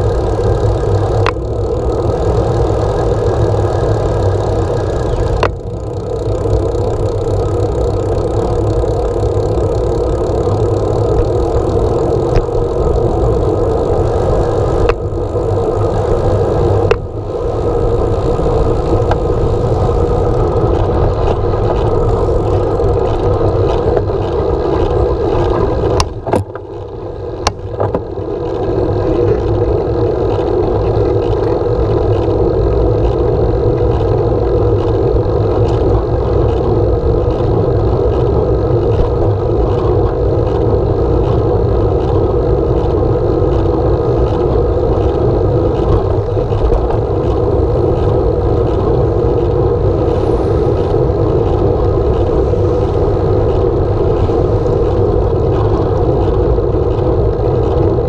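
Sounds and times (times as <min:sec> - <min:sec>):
bike tyre rolling on road: 0:00.0 - 0:58.0
wind rushing over microphone: 0:00.0 - 0:58.0.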